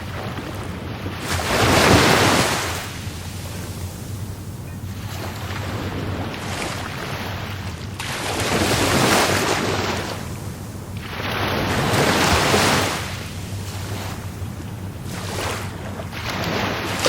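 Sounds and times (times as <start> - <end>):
waves breaking on shore: 0.0 - 3.6, 5.0 - 17.0.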